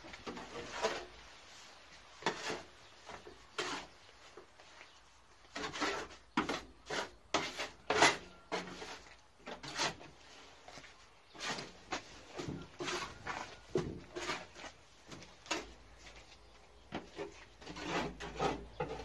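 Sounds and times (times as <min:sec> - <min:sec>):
mortar scraping in metal wheelbarrow: 0:00.0 - 0:04.4, 0:05.4 - 0:15.8, 0:17.0 - 0:19.0.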